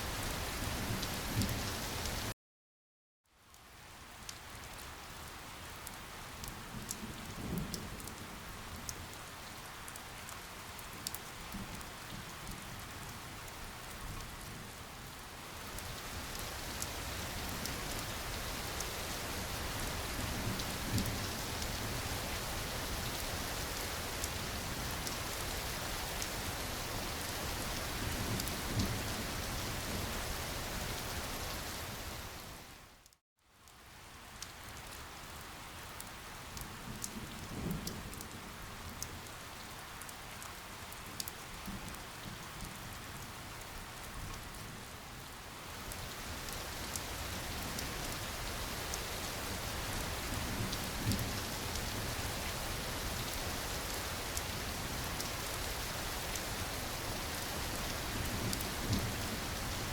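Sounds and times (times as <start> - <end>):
steady rain falling: 0.0 - 2.4, 3.3 - 59.9.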